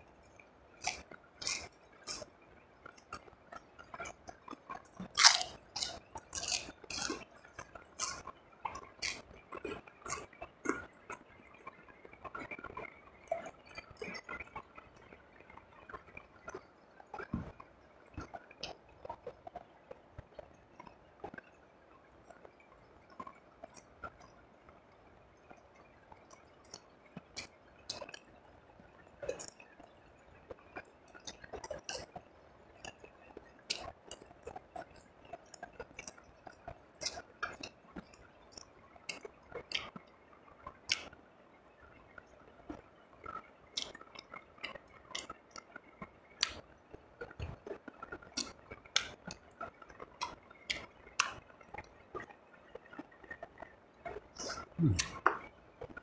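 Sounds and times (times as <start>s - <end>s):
person chewing food: 0.3s - 14.6s, 15.7s - 21.5s, 23.1s - 24.4s, 26.2s - 28.3s, 28.9s - 29.9s, 30.5s - 32.2s, 32.8s - 41.2s, 42.7s - 56.0s.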